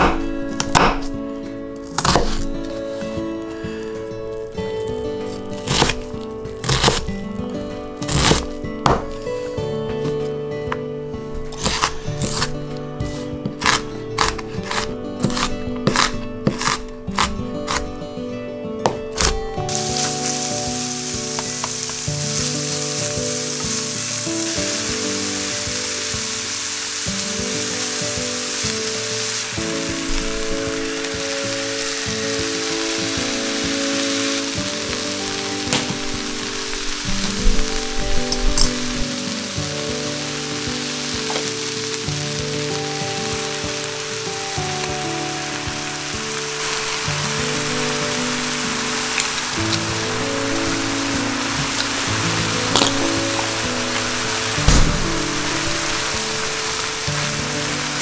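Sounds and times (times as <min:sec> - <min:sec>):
light background music: 0:00.0 - 0:58.0
meat and cabbage sizzling in a pan: 0:01.8 - 0:07.1, 0:07.9 - 0:09.6, 0:11.3 - 0:17.9, 0:19.2 - 0:58.0.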